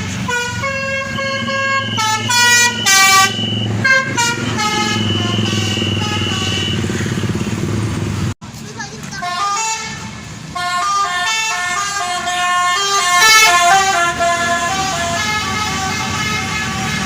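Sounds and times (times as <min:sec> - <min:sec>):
musical bus horn playing a tune: 0:00.0 - 0:07.1, 0:09.2 - 0:17.0.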